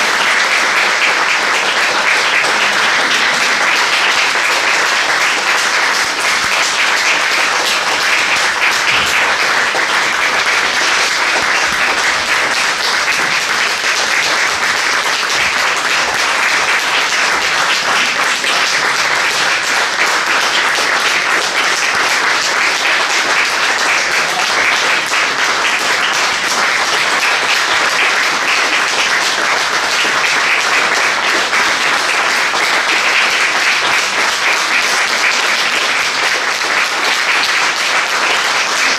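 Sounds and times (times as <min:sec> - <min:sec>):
large audience applauding: 0:00.0 - 0:38.9.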